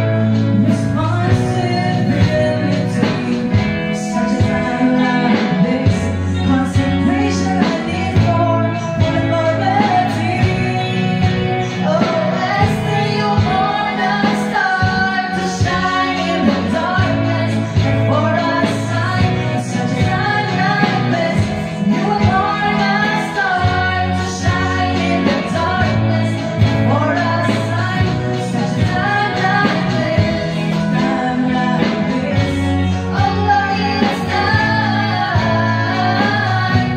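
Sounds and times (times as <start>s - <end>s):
guitar accompaniment: 0.0s - 36.9s
women singing gospel: 0.0s - 36.9s.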